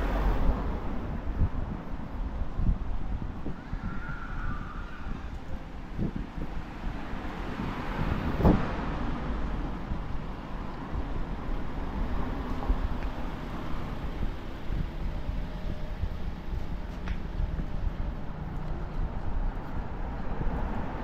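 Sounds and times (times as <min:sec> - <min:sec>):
car passing: 0:00.0 - 0:02.2, 0:03.5 - 0:16.8, 0:17.4 - 0:21.0
traffic noise: 0:00.0 - 0:21.0.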